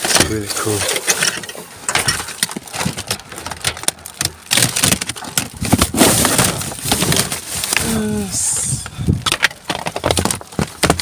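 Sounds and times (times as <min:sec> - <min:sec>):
hard objects clattering: 0:00.0 - 0:11.0
rustling: 0:00.0 - 0:11.0.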